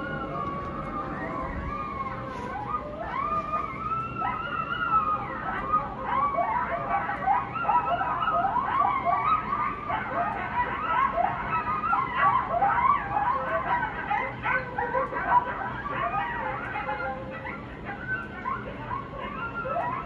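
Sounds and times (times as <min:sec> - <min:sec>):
coyotes yipping and howling: 0:00.0 - 0:20.0.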